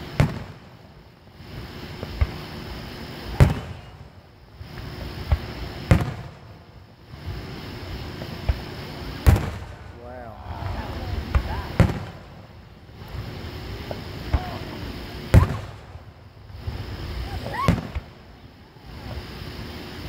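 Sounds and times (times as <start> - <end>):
fireworks booming: 0.0 - 20.0.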